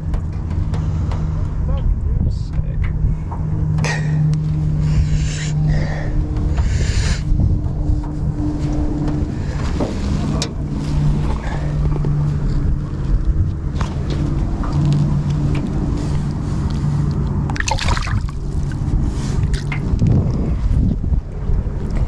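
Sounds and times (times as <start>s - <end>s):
boat motor humming: 0.0s - 22.0s
wind rumble on microphone: 0.0s - 22.0s
water noise: 3.3s - 22.0s.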